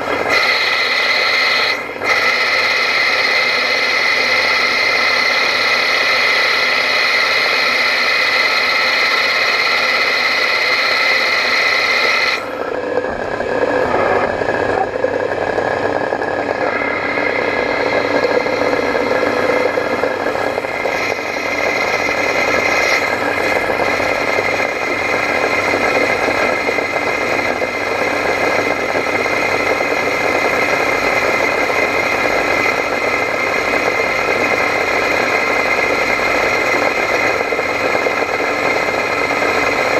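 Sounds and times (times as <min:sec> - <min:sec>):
lathe machine whine: 0:00.0 - 0:39.9
rough lathe running noise: 0:00.0 - 0:39.9.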